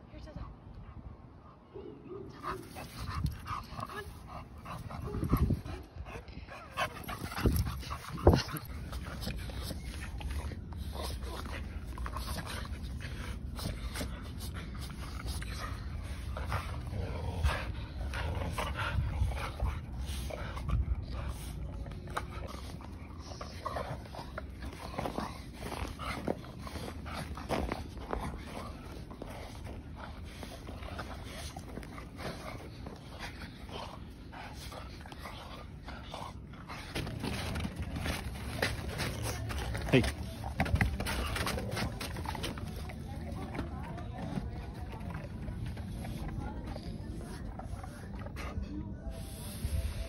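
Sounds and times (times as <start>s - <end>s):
dog panting: 0.7s - 50.0s.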